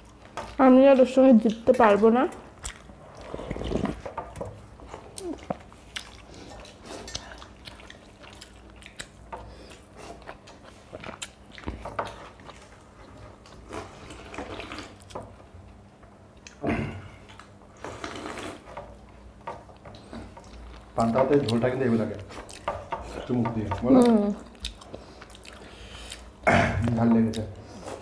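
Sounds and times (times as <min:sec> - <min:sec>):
chewing: 0:00.0 - 0:28.0.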